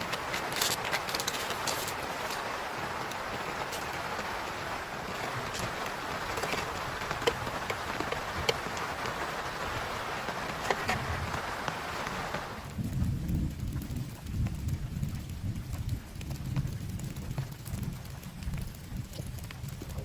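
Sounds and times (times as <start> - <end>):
heavy rain falling: 0.0 - 20.0
raindrops tapping a surface: 0.0 - 20.0.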